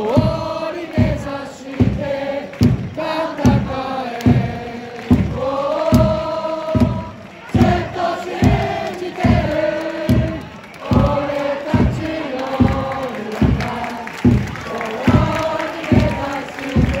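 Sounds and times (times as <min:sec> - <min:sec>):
bass drum beat: 0:00.0 - 0:17.0
crowd chanting: 0:00.0 - 0:17.0.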